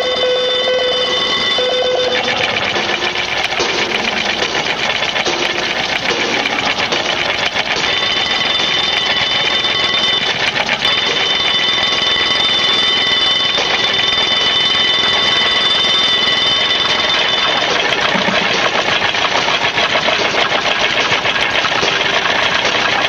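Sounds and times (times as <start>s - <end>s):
alarm clocks ringing: 0.0s - 23.0s.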